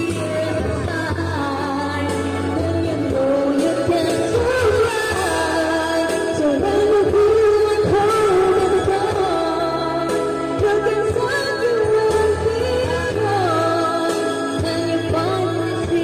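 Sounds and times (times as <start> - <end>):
karaoke backing track: 0.0 - 16.0
woman singing into microphone: 0.0 - 16.0.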